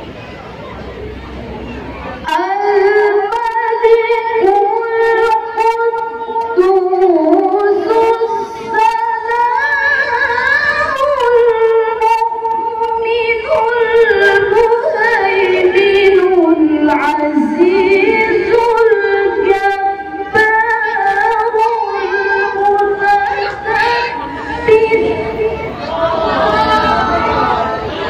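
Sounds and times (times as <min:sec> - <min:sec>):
woman reciting melodically into microphone: 0:02.2 - 0:28.0.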